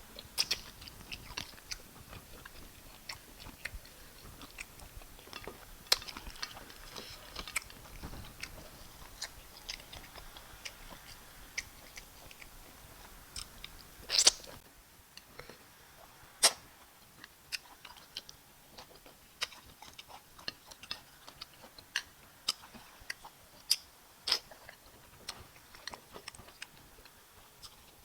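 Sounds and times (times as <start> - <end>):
chewing and lip-smacking: 0.2 - 14.6, 16.4 - 28.0.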